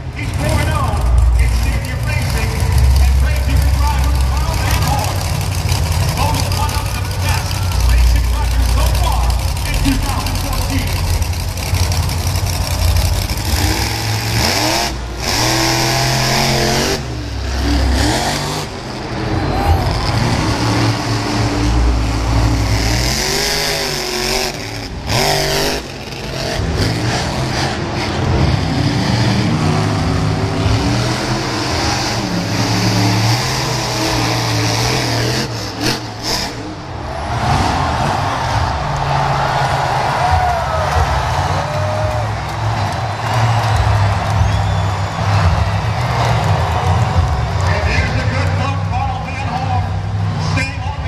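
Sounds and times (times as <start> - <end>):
monster truck engines revving: 0.0 - 51.0.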